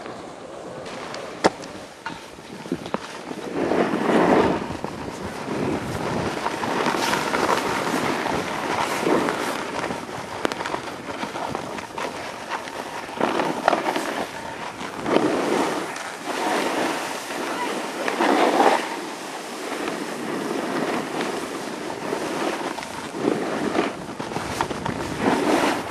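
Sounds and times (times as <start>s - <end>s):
wind on microphone: 0.0s - 25.9s
snowboard hissing through snow: 2.5s - 10.4s, 11.2s - 25.9s.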